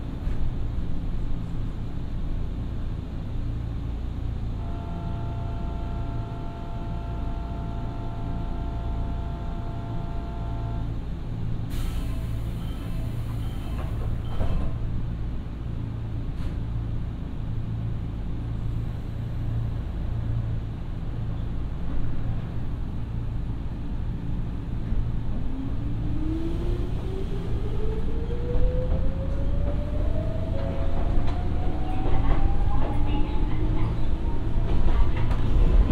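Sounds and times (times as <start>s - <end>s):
train interior hum: 0.0s - 35.9s.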